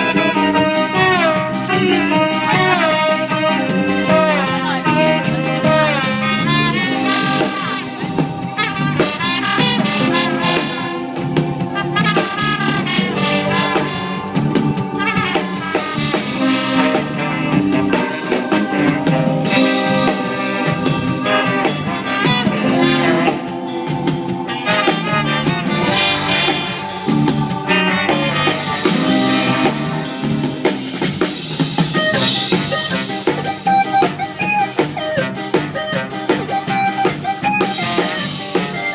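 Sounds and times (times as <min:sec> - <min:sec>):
brass horns playing tune: 0:00.0 - 0:38.9
drum kit: 0:00.0 - 0:38.9.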